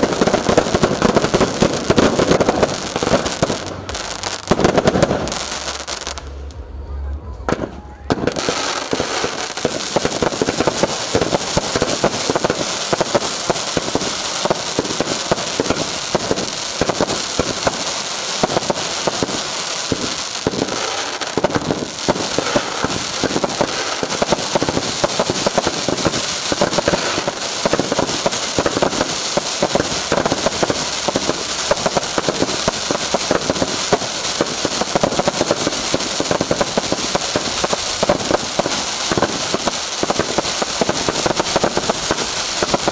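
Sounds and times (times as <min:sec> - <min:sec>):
fireworks crackling bangs: 0:00.0 - 0:42.9.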